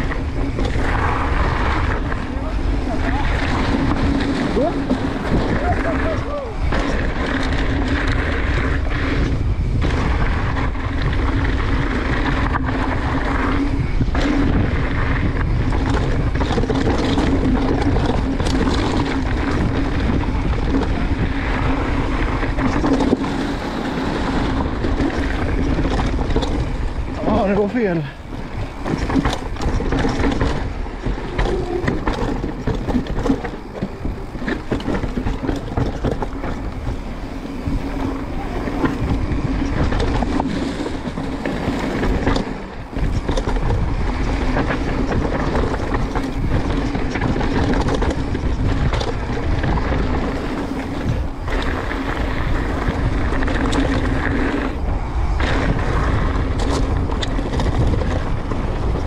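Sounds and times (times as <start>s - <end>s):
bike knocks and rattles: 0.0s - 59.0s
tyres rolling over dirt: 0.0s - 59.0s
wind rushing over microphone: 0.0s - 59.0s.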